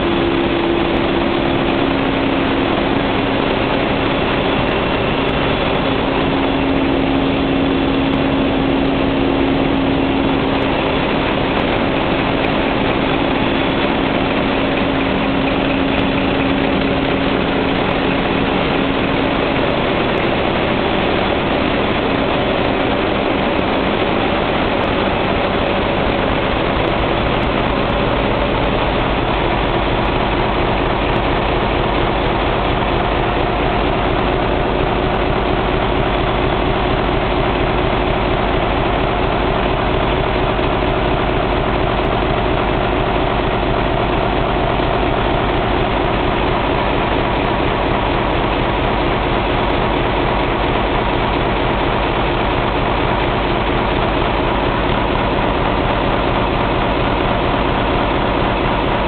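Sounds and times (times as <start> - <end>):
diesel engine din: 0.0 - 59.0
steady hum: 0.0 - 59.0.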